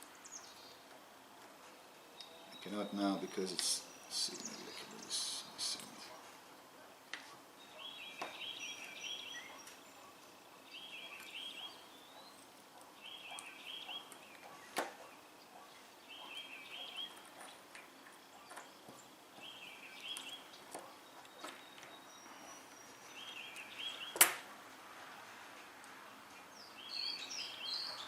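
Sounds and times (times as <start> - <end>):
bird chirping: 0.0 - 1.0, 1.6 - 24.5, 25.9 - 28.0.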